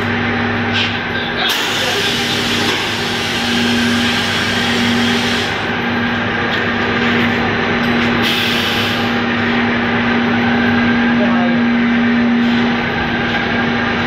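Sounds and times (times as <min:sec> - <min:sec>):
machine humming and whirring: 0:00.0 - 0:14.0.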